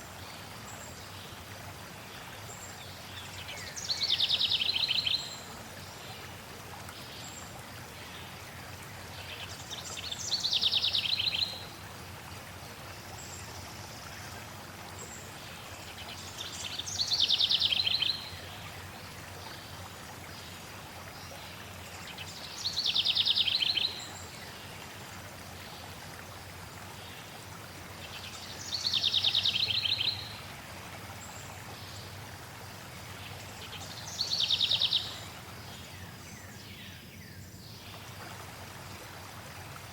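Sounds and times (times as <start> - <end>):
flowing water rushing: 0.0 - 36.9, 37.7 - 39.9.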